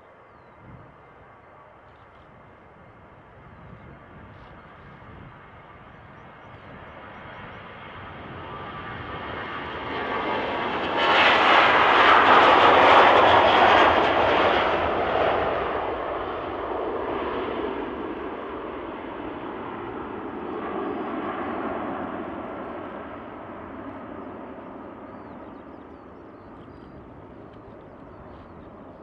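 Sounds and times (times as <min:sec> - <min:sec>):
jet engines at takeoff thrust: 0:00.0 - 0:29.0.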